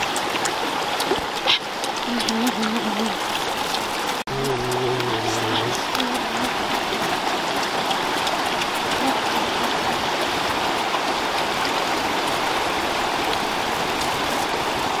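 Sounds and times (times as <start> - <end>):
small water splashes: 0.0 - 15.0
stream rushing over stones: 0.0 - 15.0.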